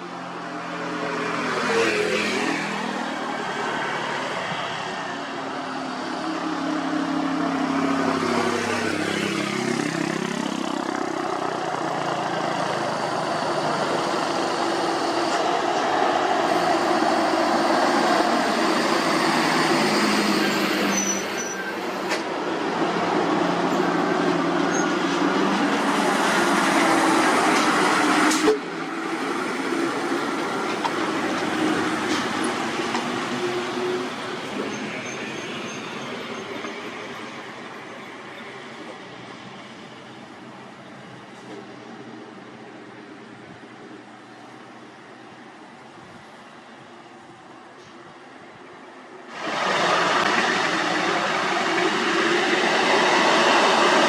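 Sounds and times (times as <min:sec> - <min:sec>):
heavy diesel paving machinery: 0:00.0 - 0:54.0.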